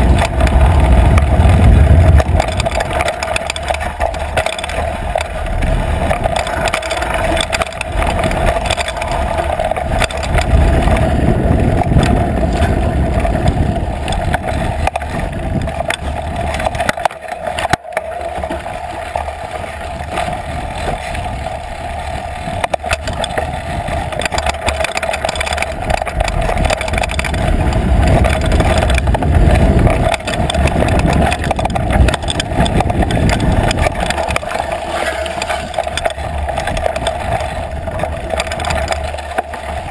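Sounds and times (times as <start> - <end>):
bike rattling and clattering: 0.0 - 39.9
wind rumble: 0.0 - 39.9.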